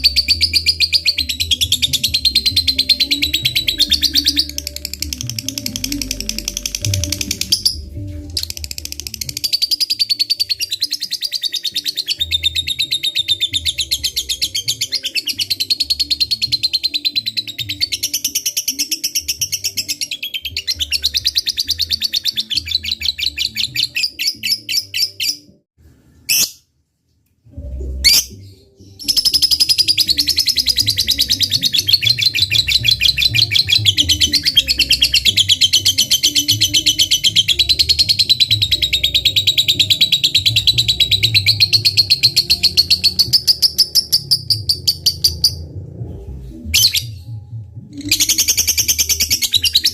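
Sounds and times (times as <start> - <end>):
lovebird chattering song: 0.0 - 25.4, 28.0 - 45.6, 48.0 - 49.9.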